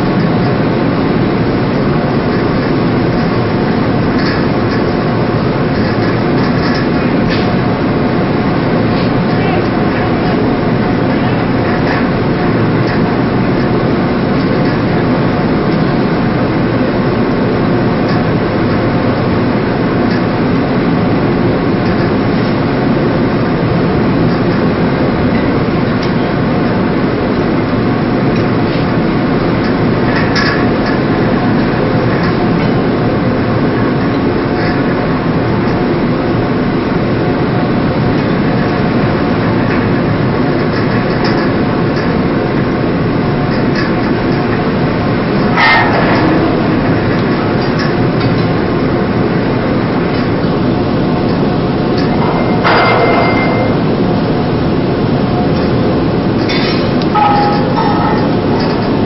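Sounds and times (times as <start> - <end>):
ship engines droning: 0.0 - 59.0.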